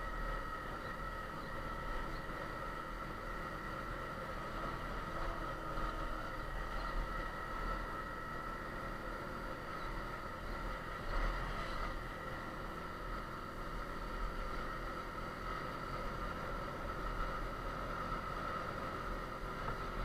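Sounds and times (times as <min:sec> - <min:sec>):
trail bike engine running: 0:00.0 - 0:20.0.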